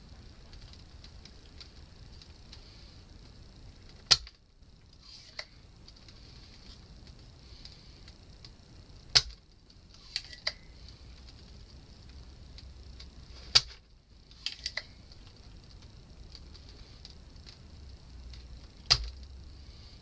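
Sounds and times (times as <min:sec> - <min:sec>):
faint steady hiss: 0:00.0 - 0:20.0
desoldering pump snapping: 0:00.1 - 0:19.5.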